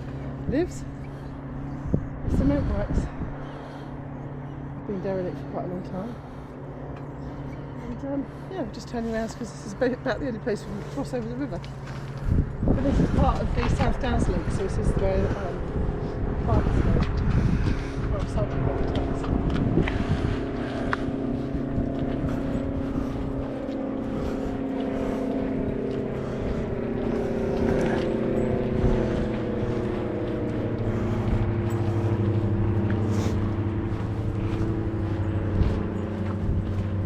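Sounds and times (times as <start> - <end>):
motor engine droning: 0.0 - 37.0.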